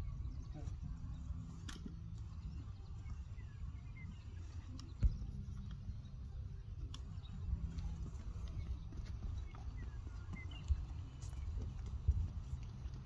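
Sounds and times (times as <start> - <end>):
faint bird chirps: 0.0 - 12.5
horse hooves on soft dirt: 0.0 - 13.0
low steady rumble: 0.0 - 13.0.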